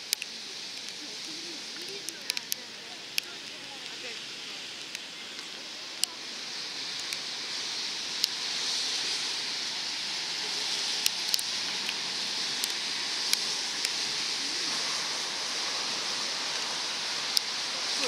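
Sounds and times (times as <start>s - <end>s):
light rain hiss: 0.0s - 18.0s
raindrops tapping: 0.0s - 18.0s.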